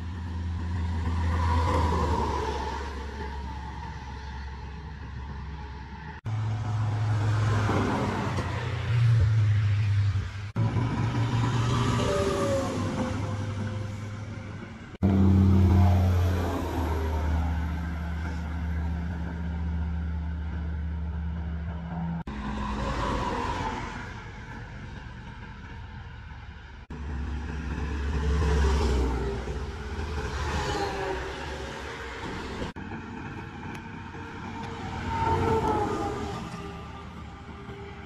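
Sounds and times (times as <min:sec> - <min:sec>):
diesel trucks driving past: 0:00.0 - 0:38.0
tyre and road noise: 0:00.0 - 0:38.0.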